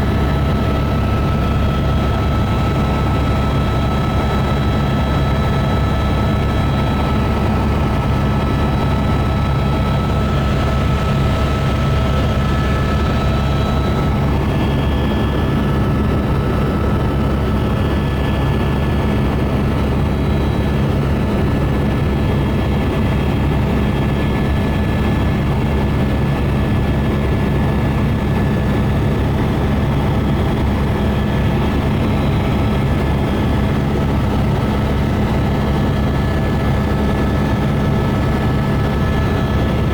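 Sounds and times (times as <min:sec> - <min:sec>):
helicopter rotor drone: 0:00.0 - 0:39.9
turbine whine: 0:00.0 - 0:39.9.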